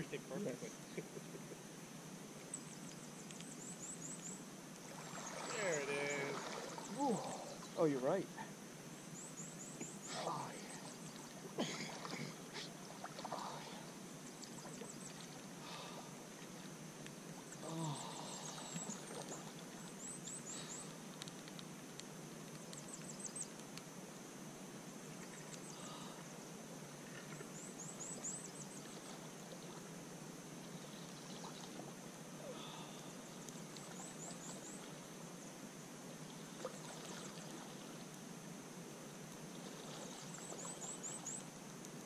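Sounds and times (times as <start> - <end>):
soft background hiss: 0.0 - 42.0.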